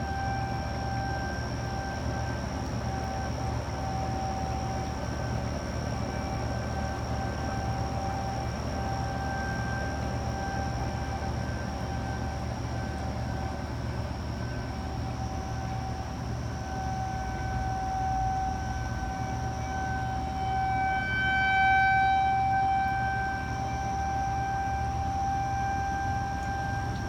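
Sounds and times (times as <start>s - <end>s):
tornado warning siren: 0.0s - 27.0s.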